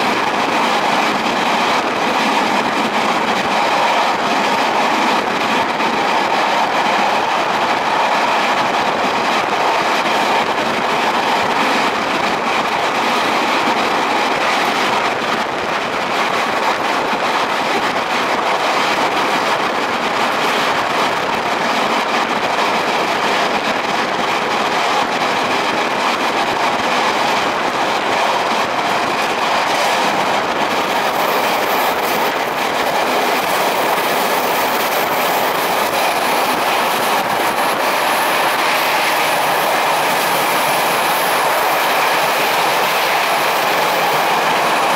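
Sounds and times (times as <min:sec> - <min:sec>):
train wheel and rail noise: 0:00.0 - 0:44.9.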